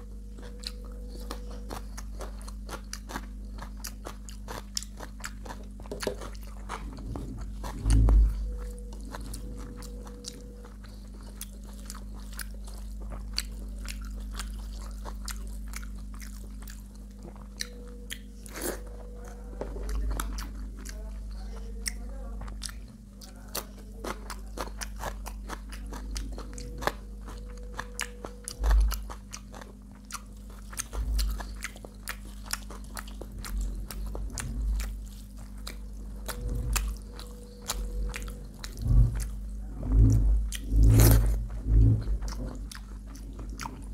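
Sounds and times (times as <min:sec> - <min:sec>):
low electrical hum: 0:00.0 - 0:43.9
person chewing food: 0:00.0 - 0:43.9.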